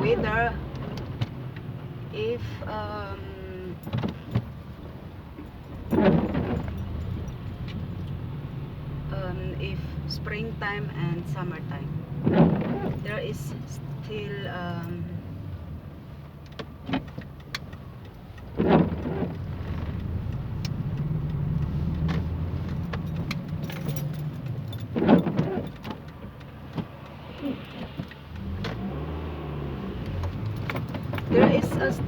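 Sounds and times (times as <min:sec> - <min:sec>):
engine and road hum: 0:00.0 - 0:32.0.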